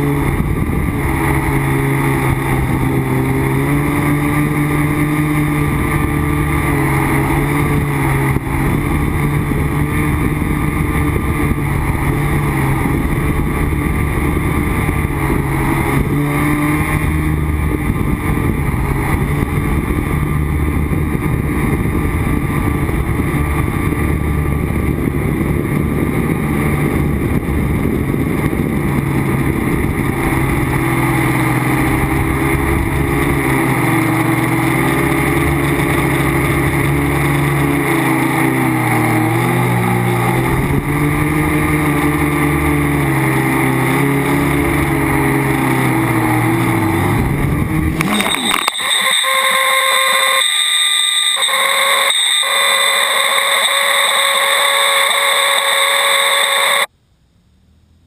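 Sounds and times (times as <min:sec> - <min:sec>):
wind rushing over microphone: 0:00.0 - 0:48.8
drone motors and propellers buzzing: 0:00.0 - 0:56.9.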